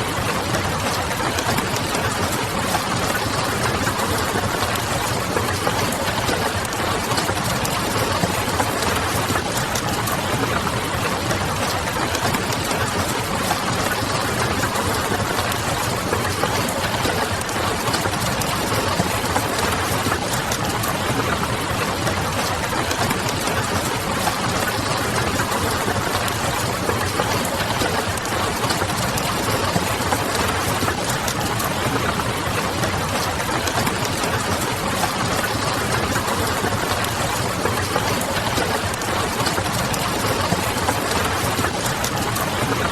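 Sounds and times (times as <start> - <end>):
steady rain: 0.0 - 42.9.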